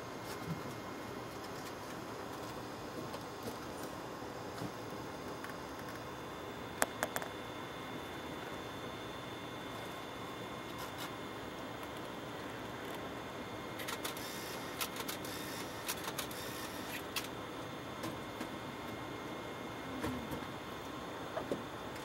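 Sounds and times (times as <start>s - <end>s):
cabin hiss and hum: 0.0s - 22.0s
thin steady whine tones: 0.0s - 22.0s.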